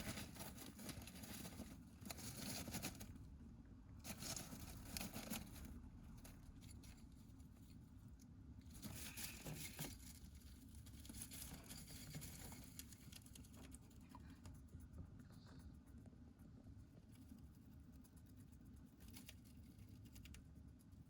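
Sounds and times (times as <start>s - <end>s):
small clicks and scratches: 0.0s - 3.2s, 4.0s - 21.0s
faint rustling and crinkling: 0.0s - 21.0s.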